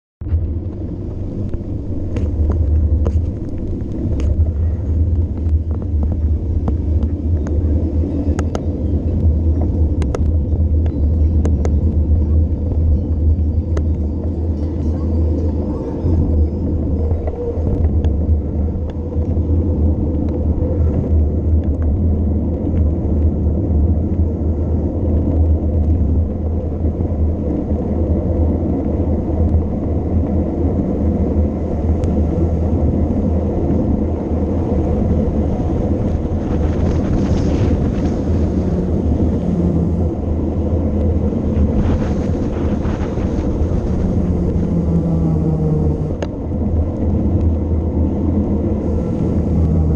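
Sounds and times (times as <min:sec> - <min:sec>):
wind buffeting microphone: 0:00.2 - 0:49.9.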